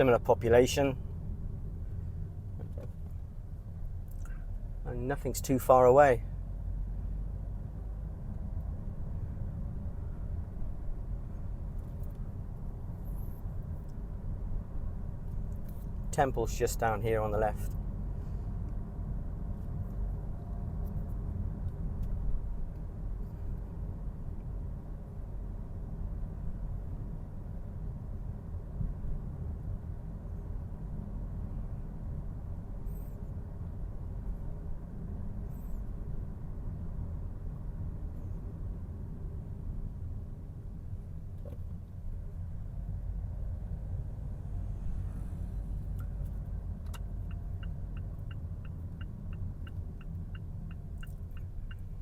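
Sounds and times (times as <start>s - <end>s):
vehicle driving on road: 0.0s - 52.0s.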